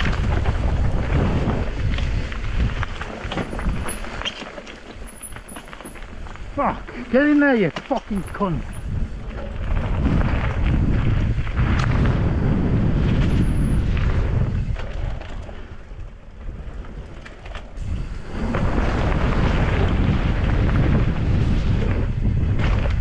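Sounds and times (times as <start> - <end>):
bike tyre and frame noise: 0.0 - 23.0
wind rumble on microphone: 0.0 - 23.0.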